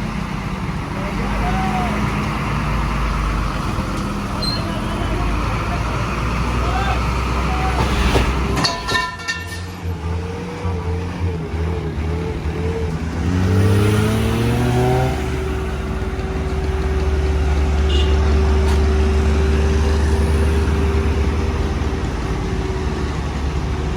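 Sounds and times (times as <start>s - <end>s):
truck engine revving: 0.0s - 23.9s.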